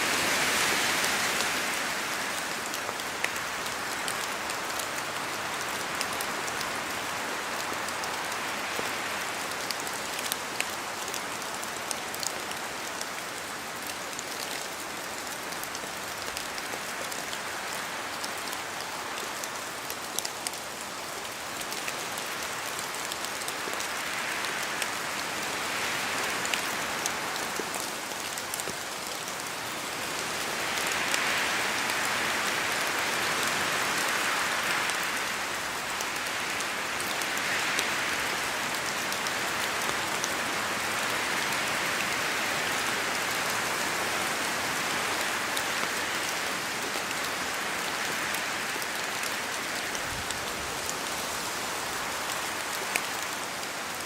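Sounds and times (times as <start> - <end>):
steady rain in forest: 0.0 - 54.0.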